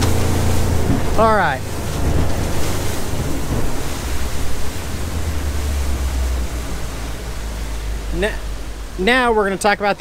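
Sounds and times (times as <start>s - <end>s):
boat engine rumble: 0.0s - 10.0s
wind and water rushing: 0.0s - 10.0s.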